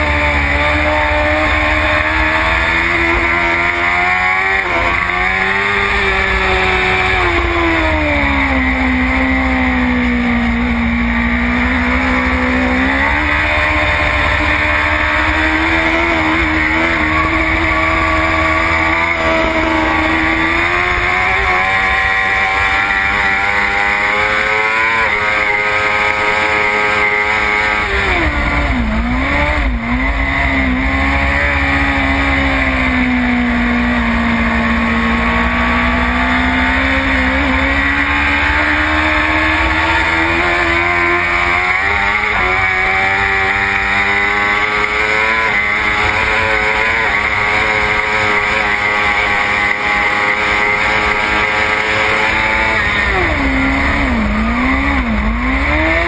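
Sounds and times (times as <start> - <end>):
motorcycle engine revving hard: 0.0 - 56.0.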